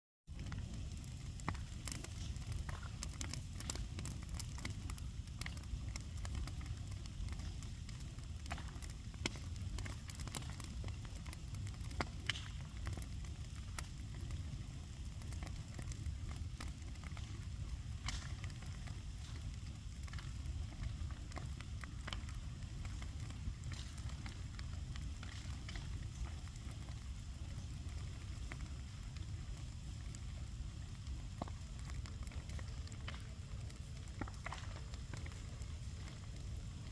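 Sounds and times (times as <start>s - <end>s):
bonfire crackling and popping: 0.3s - 36.9s
low fire rumble: 0.3s - 36.9s.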